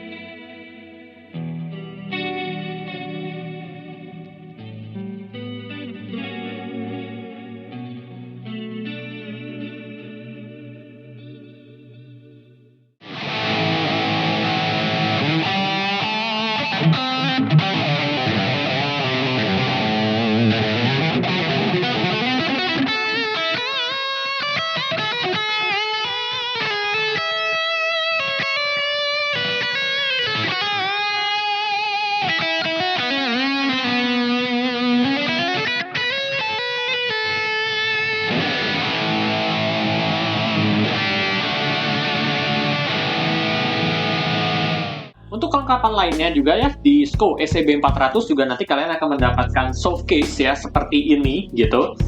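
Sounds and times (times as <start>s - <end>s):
distorted electric guitar: 0.0s - 12.4s, 13.0s - 52.0s.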